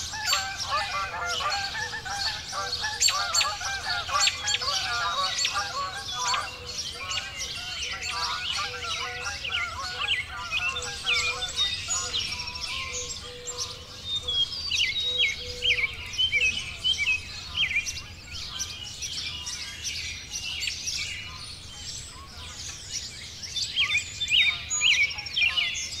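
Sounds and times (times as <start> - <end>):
songbirds singing and chirping: 0.0 - 26.0.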